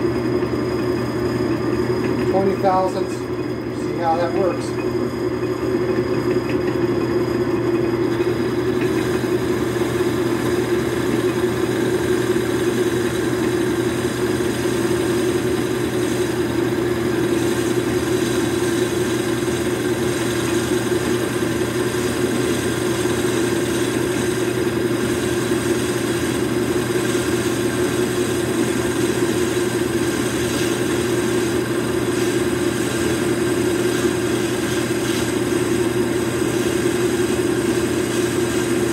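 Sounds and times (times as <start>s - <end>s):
metal lathe running under a cut: 0.0s - 38.9s.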